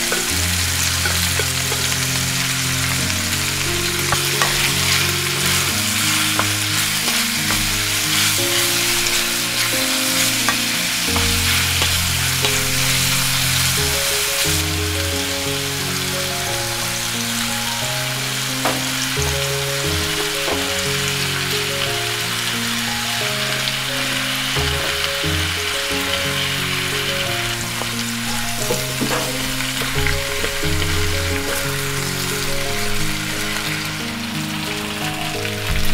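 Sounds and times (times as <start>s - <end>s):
food sizzling in a frying pan: 0.0s - 35.9s
soft background music: 0.0s - 35.9s.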